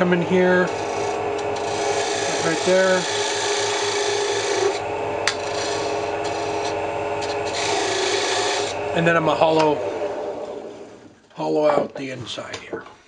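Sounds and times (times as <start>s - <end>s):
turning tool scraping wood: 0.0s - 11.2s
lathe motor hum: 0.0s - 11.3s.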